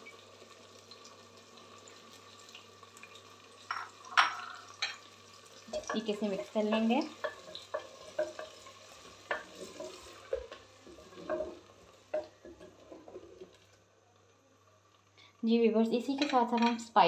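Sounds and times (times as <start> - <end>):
faint frying: 0.0 - 17.0.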